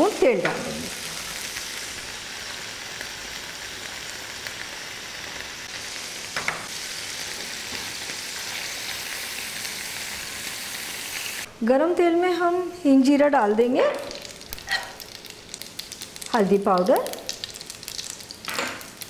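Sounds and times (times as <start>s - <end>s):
cheese sizzling in oil: 0.0s - 11.5s, 14.0s - 19.0s.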